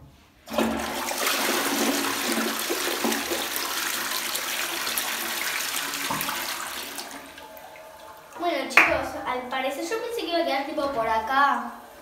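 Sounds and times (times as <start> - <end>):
toilet flushing: 0.4 - 12.0.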